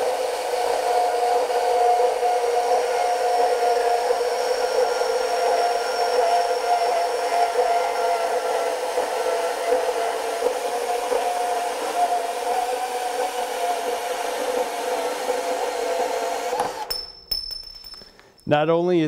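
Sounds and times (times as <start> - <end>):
band saw cutting metal: 0.0 - 16.9.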